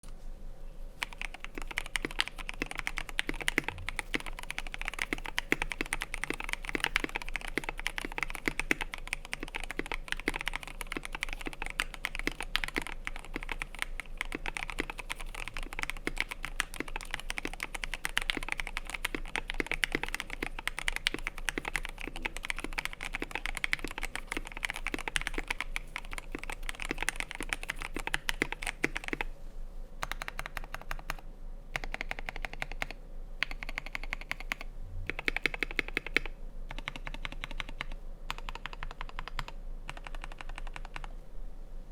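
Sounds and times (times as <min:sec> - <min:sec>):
fast typing on mechanical keyboard: 0:01.0 - 0:29.3, 0:30.0 - 0:41.1.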